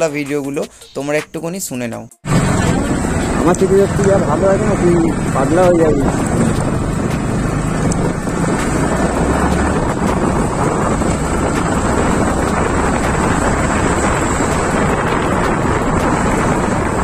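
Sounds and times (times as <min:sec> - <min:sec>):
motorcycle engine rumble: 0:02.2 - 0:17.0
wind rushing over microphone: 0:02.2 - 0:17.0.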